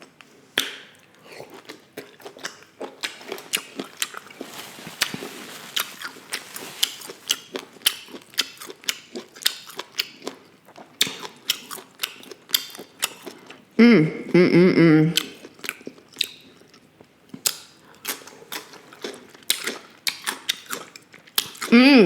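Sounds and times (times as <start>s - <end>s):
person chewing wetly: 0.0s - 13.6s, 15.2s - 21.8s.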